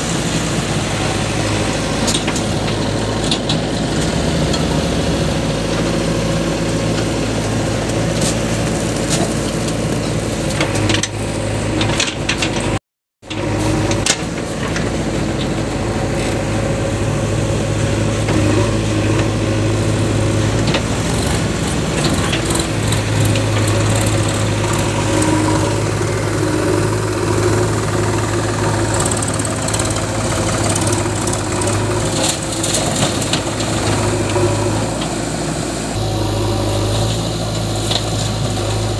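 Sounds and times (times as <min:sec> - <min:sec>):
diesel tractor engines idling: 0:00.0 - 0:38.9.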